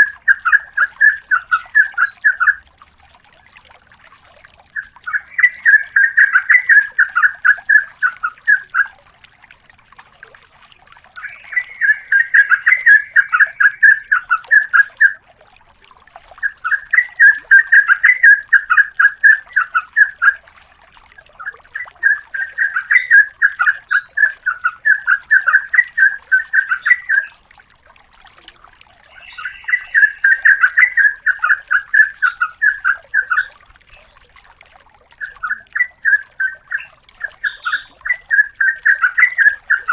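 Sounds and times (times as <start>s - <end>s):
bird singing bubbling rolls: 0.0s - 39.9s.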